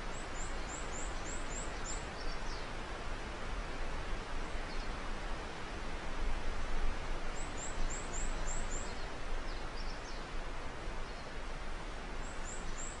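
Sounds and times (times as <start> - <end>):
wind hiss: 0.0 - 13.0.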